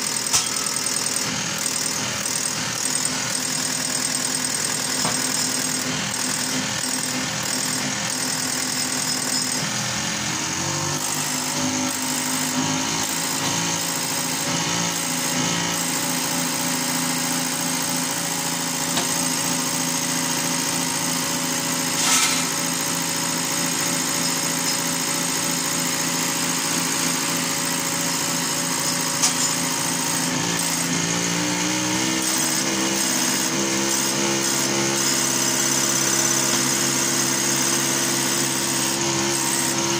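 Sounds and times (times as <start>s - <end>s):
diesel injection pump running: 0.0s - 39.9s.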